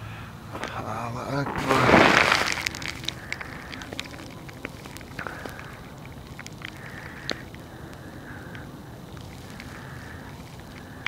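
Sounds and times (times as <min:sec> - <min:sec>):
light clicks and crackles: 0:00.5 - 0:11.0.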